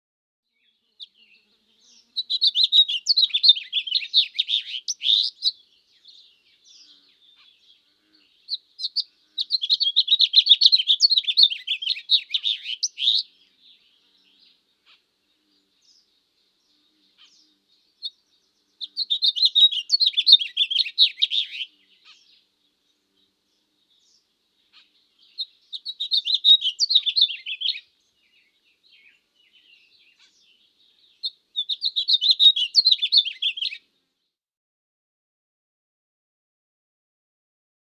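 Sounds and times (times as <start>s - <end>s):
goldfinch twittering song: 0.5s - 33.8s.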